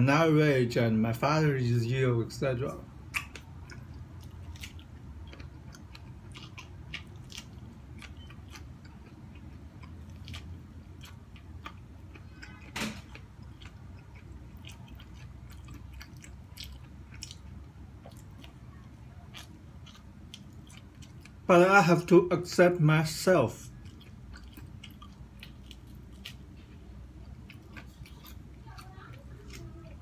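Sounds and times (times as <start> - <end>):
low steady hum: 0.0 - 30.0
person chewing corn on the cob: 3.1 - 21.5, 23.7 - 30.0.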